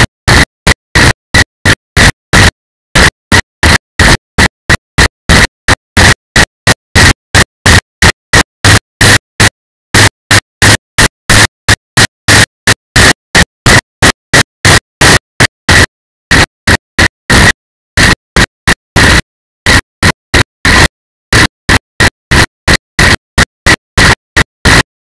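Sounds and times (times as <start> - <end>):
harsh distorted static bursts: 0.0 - 25.0.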